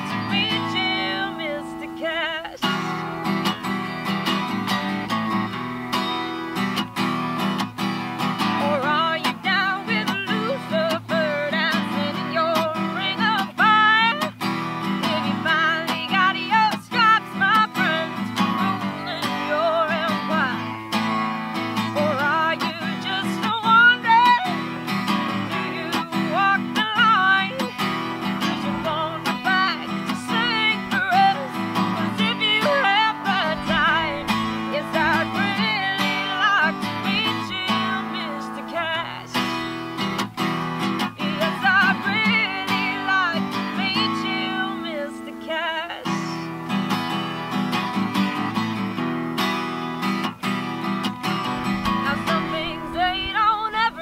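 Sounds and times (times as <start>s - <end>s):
woman singing: 0.0s - 49.0s, 50.1s - 54.0s
acoustic guitar strumming: 0.0s - 54.0s.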